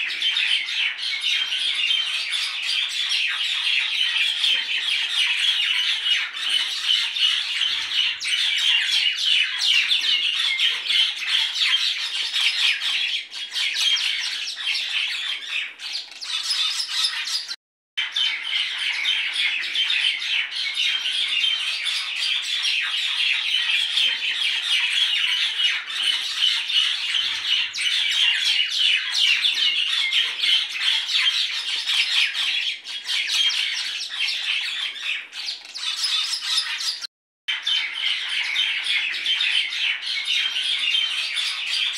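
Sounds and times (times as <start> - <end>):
birds chattering and squawking: 0.0 - 41.9.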